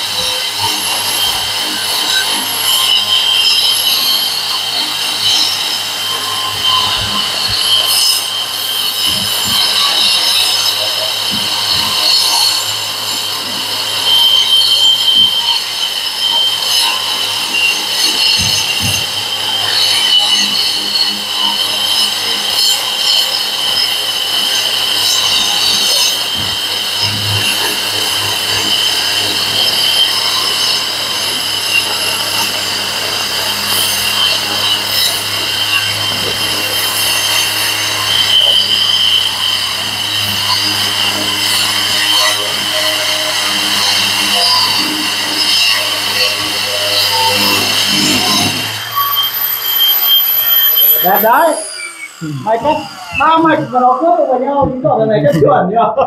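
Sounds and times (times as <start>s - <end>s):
blades grinding masonry: 0.0s - 56.0s
wall chaser motor whine: 0.0s - 56.0s.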